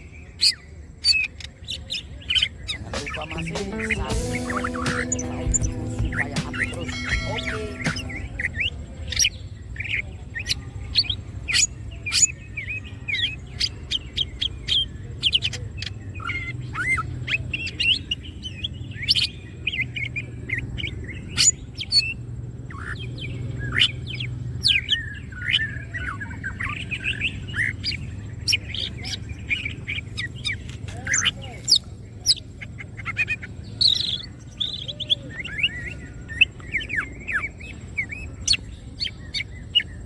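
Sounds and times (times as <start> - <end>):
bird singing chirps and trills: 0.0 - 40.0.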